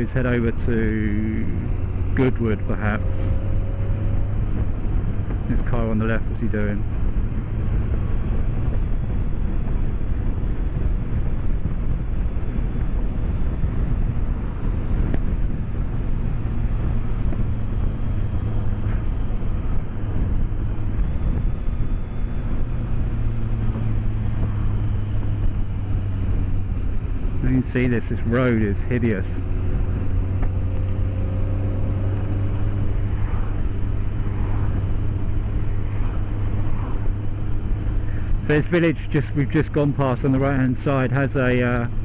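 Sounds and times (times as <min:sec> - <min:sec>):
motorcycle engine droning: 0:00.0 - 0:42.0
wind and road rush: 0:00.0 - 0:42.0.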